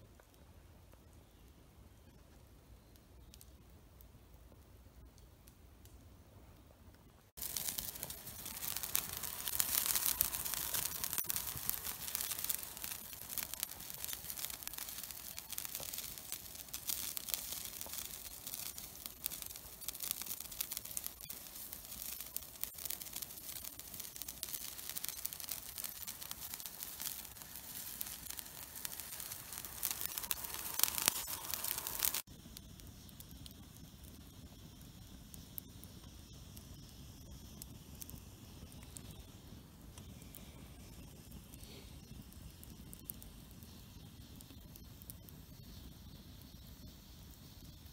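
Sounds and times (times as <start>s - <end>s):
soft hiss: 0.0s - 47.9s
campfire crackling: 0.1s - 47.9s.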